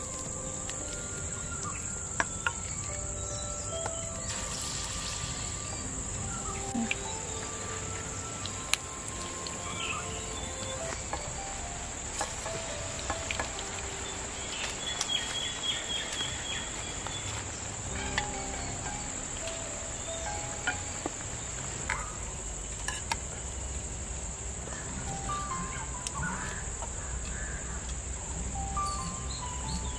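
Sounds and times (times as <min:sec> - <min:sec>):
high-pitched insect drone: 0:00.0 - 0:16.7, 0:17.7 - 0:29.9.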